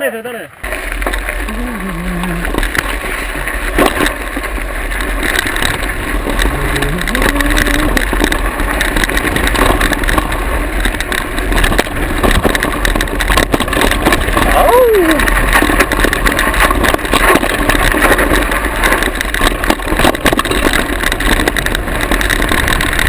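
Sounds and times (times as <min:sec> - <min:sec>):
mountain bike rattling: 0:00.0 - 0:23.0
wind rushing over microphone: 0:01.0 - 0:23.0.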